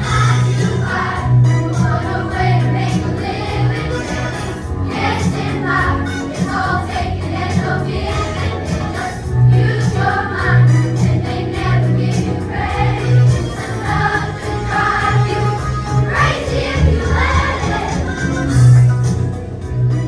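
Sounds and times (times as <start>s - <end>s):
children's choir singing: 0.0s - 19.6s
pop backing track with bass: 0.0s - 20.0s.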